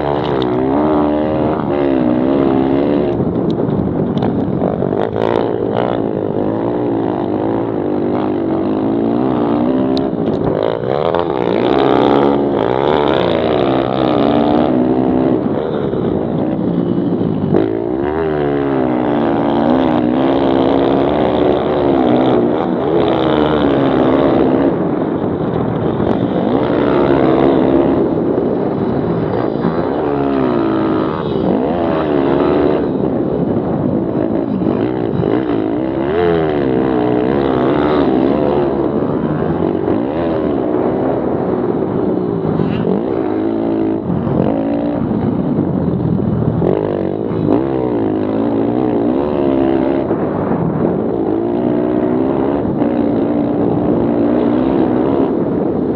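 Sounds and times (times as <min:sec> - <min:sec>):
pit bike engines revving: 0:00.0 - 0:55.9.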